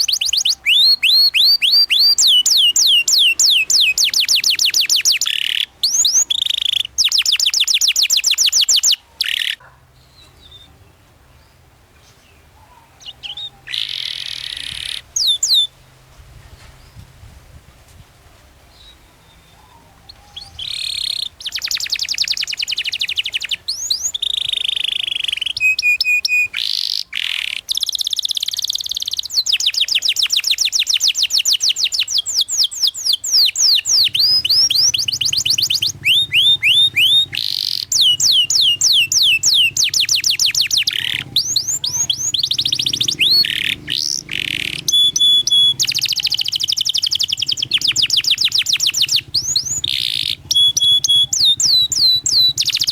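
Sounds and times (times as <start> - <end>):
canary singing trills: 0.0 - 15.8, 18.7 - 52.9.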